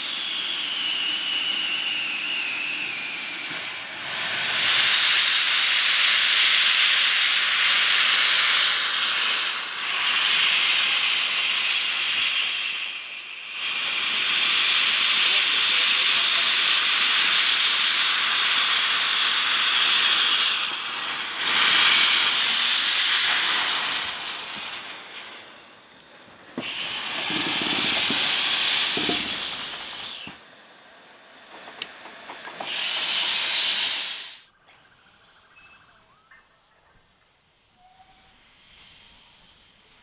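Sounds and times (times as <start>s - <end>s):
steam locomotive hissing steam: 0.0s - 34.6s, 37.4s - 40.0s.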